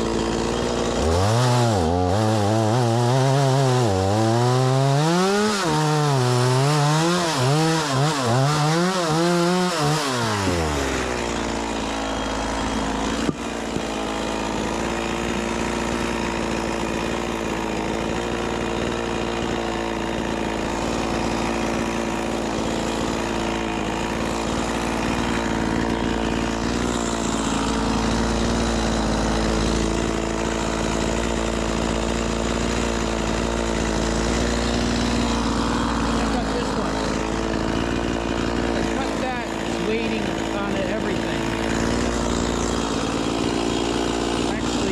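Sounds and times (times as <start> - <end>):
chainsaw cutting log: 0.0 - 44.9.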